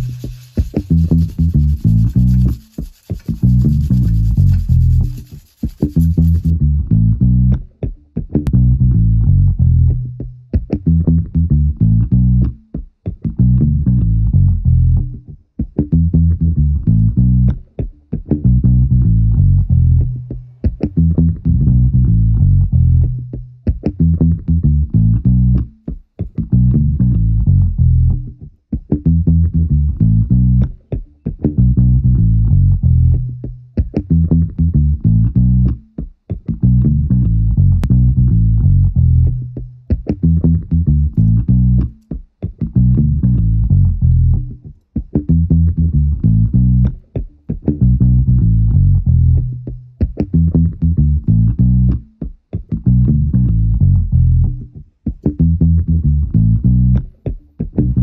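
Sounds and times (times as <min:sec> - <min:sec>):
bass guitar riff: 0:00.0 - 0:54.7, 0:55.3 - 0:58.0.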